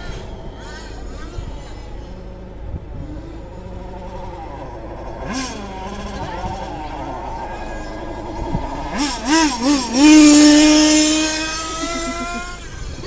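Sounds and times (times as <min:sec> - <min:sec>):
small motorbike engine revving: 0:02.1 - 0:13.0.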